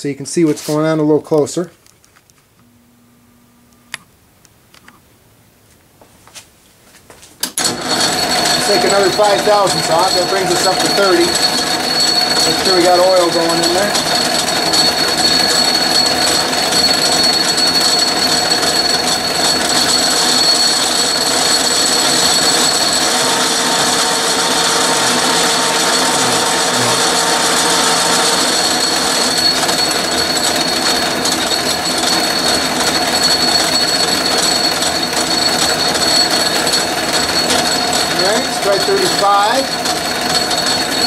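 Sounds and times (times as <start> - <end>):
thin high whine: 2.5 - 4.2, 7.6 - 41.0
metal lathe running: 7.6 - 41.0.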